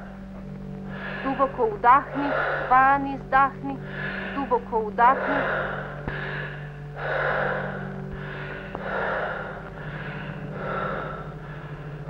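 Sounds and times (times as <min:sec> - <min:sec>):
person breathing deeply: 0:00.0 - 0:03.0, 0:03.8 - 0:12.0
low hum of film soundtrack: 0:00.0 - 0:12.0.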